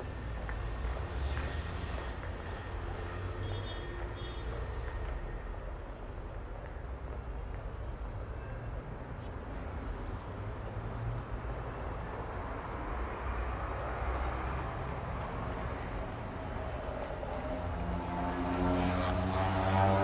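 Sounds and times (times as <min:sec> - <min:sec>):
passing traffic: 0:00.0 - 0:20.0.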